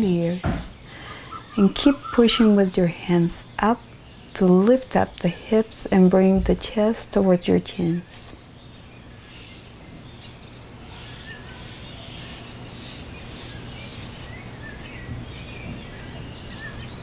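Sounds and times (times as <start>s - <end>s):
high rising and falling bird chirp: 0.0s - 5.8s, 7.4s - 17.0s
background hum and hiss: 0.0s - 17.0s.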